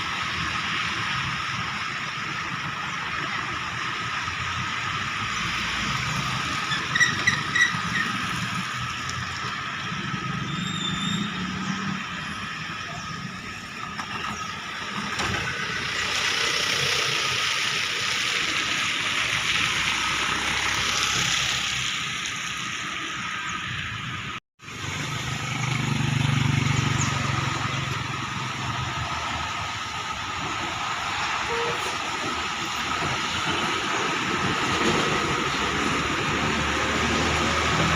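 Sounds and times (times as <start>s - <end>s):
cars and motorcycles passing: 0.0s - 37.9s
vehicle engine: 0.0s - 37.9s.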